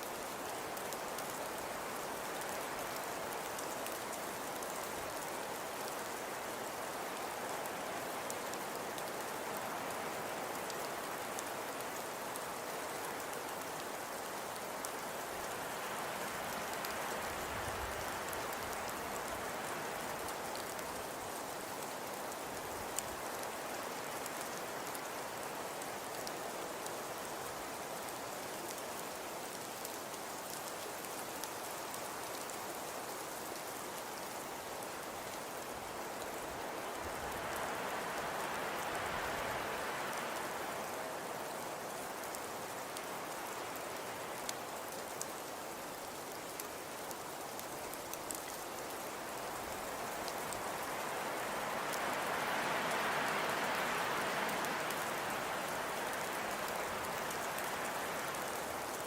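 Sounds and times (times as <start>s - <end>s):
faint crackles and ticks: 0.0s - 59.0s
steady soft hiss: 0.0s - 59.0s.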